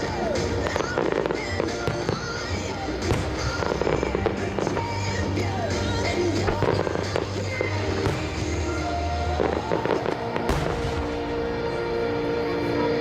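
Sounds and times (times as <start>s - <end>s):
fireworks bangs and crackling: 0.0s - 12.1s
background music: 0.0s - 13.0s.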